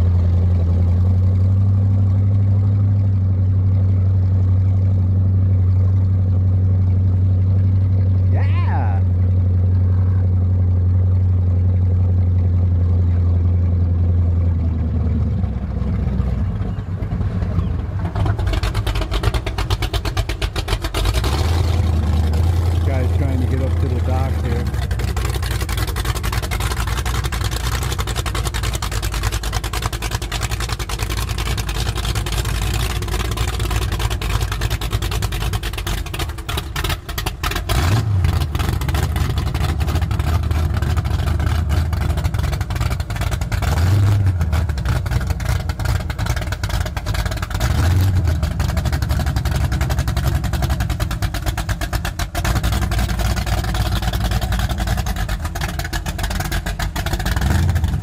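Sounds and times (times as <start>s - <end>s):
boat engine idling: 0.0s - 58.0s
engine throttle blips: 0.0s - 58.0s.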